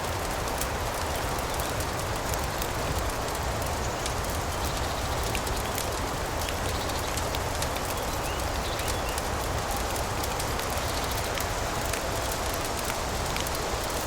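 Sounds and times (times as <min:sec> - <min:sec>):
fireplace crackling and popping: 0:00.0 - 0:14.0.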